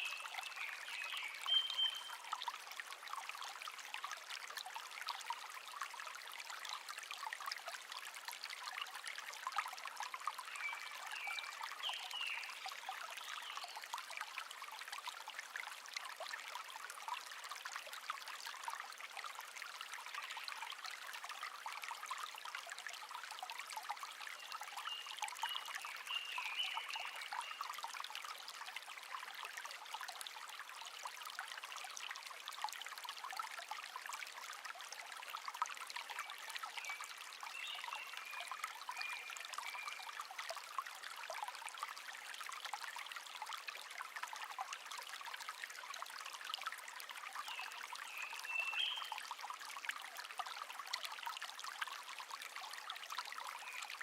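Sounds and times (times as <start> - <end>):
brook babbling: 0.0 - 54.0.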